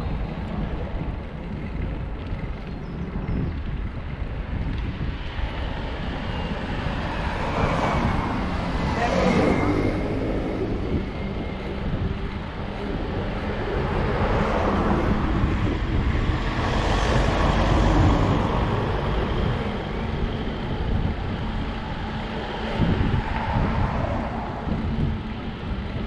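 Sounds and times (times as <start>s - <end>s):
tyre and road rumble: 0.0s - 26.0s
wind rushing over microphone: 0.0s - 26.0s.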